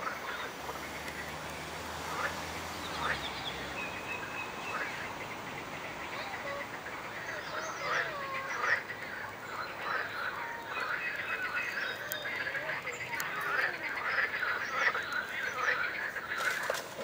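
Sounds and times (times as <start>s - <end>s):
chorus of frogs calling: 0.0s - 17.0s.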